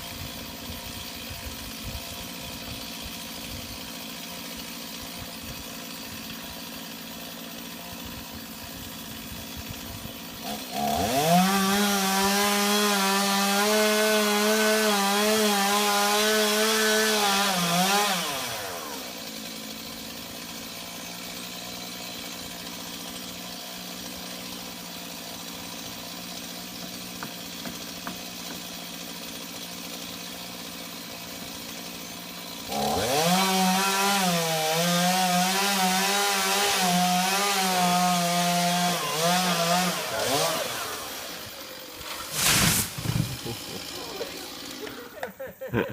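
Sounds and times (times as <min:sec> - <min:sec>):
chainsaw idling and revving: 0:00.0 - 0:45.9.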